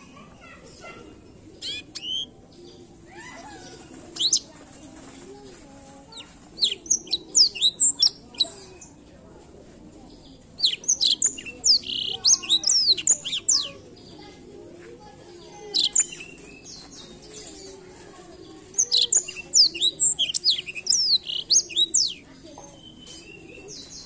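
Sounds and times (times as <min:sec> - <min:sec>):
canary singing: 0:00.6 - 0:05.2, 0:06.0 - 0:09.0, 0:10.5 - 0:14.2, 0:15.3 - 0:24.0.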